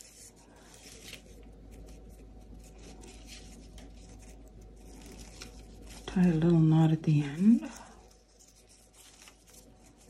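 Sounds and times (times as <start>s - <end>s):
low steady hum: 0.0s - 10.0s
ribbon rustling and scraping: 0.0s - 10.0s.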